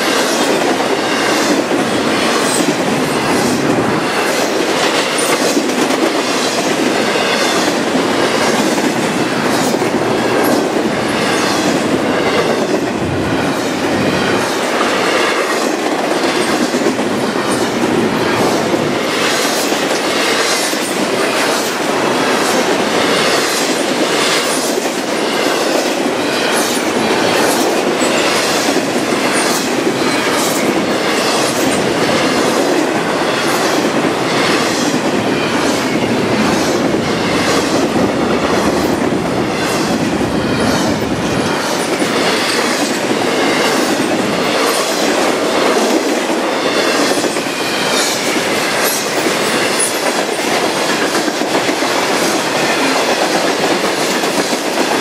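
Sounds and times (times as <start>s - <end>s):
train rolling rumble: 0.0s - 55.0s
train wheels clacking on rails: 0.0s - 55.0s.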